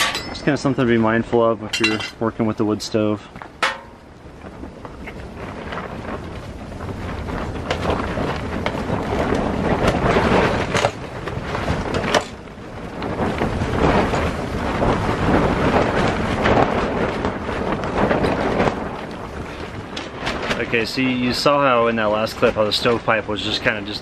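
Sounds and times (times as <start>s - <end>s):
strong wind gusting: 0.0s - 24.0s
tent walls flapping: 0.0s - 24.0s.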